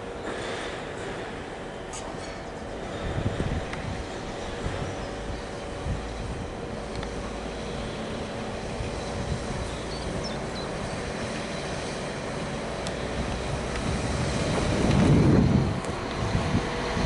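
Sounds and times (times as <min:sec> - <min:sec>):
diesel engine drone: 0:00.0 - 0:17.0
train wheels on rails: 0:00.0 - 0:17.0.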